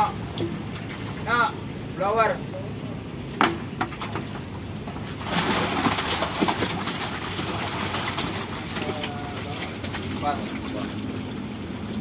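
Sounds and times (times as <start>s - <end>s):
fish thrashing and splashing: 0.0s - 2.0s, 2.9s - 12.0s.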